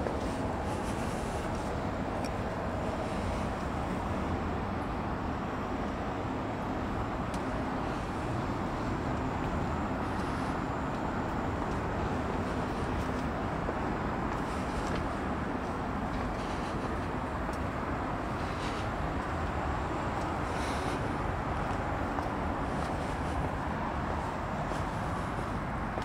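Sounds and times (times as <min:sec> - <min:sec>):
distant city traffic rumble: 0:00.0 - 0:26.0.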